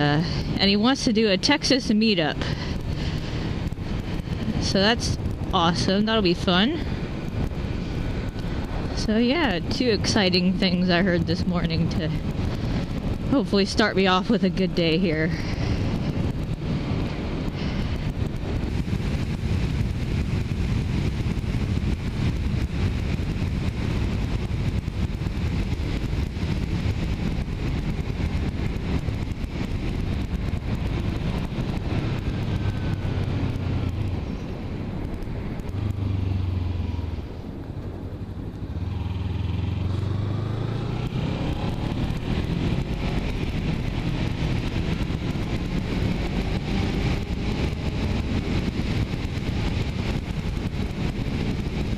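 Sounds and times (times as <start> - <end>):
motorcycle engine running: 0.0 - 51.9
wind rumble on microphone: 0.0 - 51.9.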